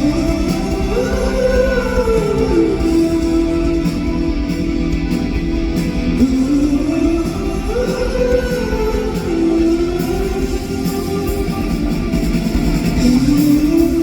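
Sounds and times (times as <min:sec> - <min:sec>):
live rock band: 0:00.0 - 0:14.0.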